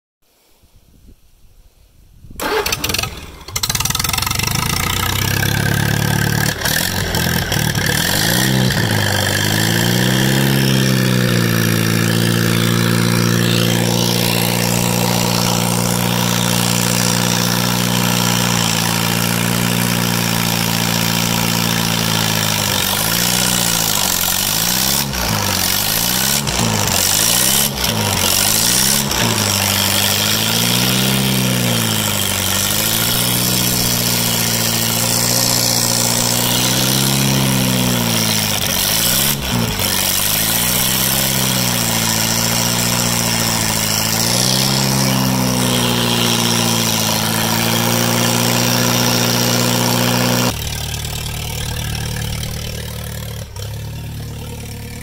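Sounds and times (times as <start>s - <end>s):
tractor engine running: 2.4s - 55.0s.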